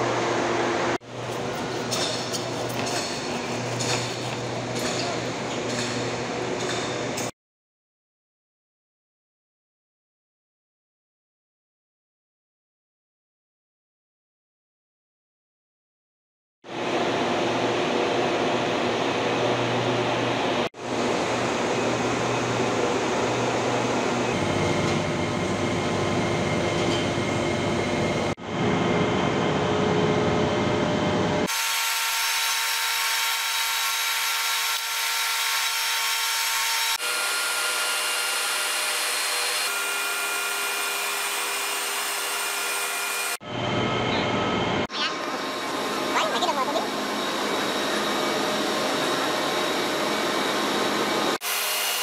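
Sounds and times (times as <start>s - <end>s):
industrial machinery noise: 0.0s - 7.3s, 16.7s - 52.0s.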